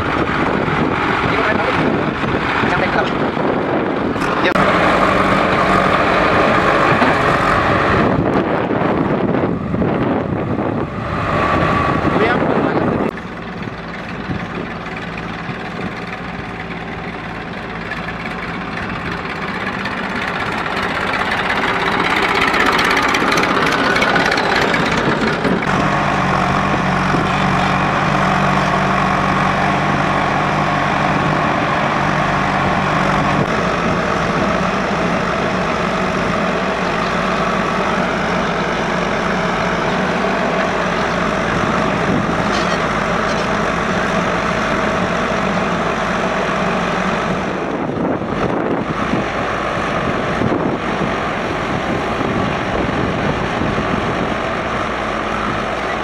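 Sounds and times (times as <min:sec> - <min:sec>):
backhoe engine working under load: 0:00.0 - 0:56.0
tractor engine running: 0:00.0 - 0:56.0.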